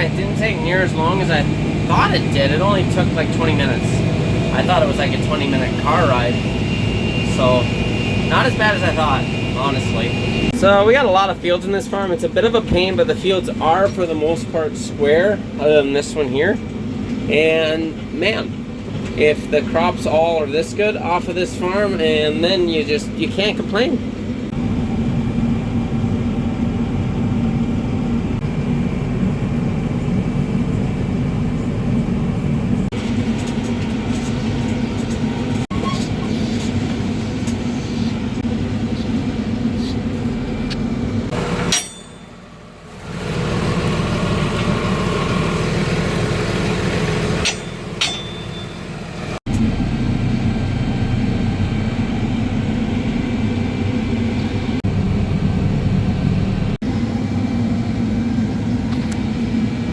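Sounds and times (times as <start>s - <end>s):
tractor engine running: 0.0s - 14.8s, 24.1s - 59.9s.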